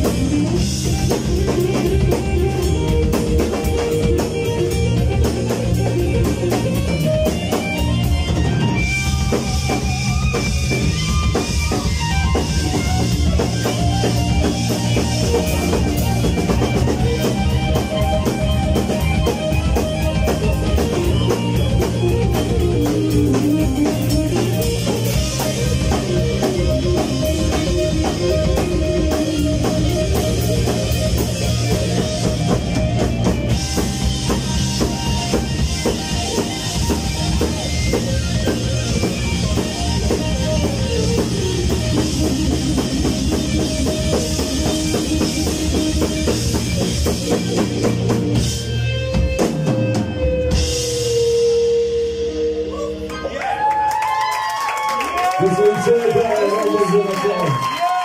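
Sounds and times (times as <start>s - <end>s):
bass: 0.0s - 58.0s
drum kit: 0.0s - 58.0s
electric guitar: 0.0s - 58.0s.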